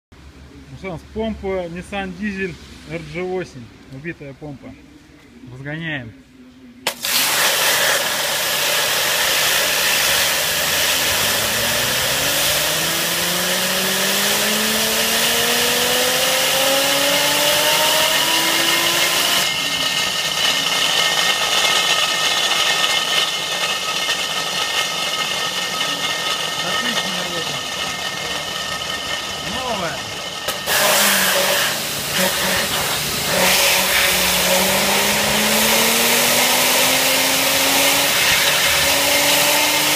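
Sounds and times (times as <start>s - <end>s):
diesel engine revving: 7.1s - 39.9s.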